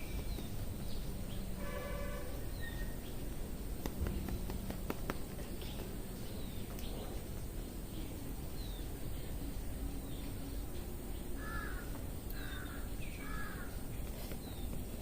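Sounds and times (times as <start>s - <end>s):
outdoor background noise: 0.0s - 15.0s
small birds chirping faintly: 0.0s - 15.0s.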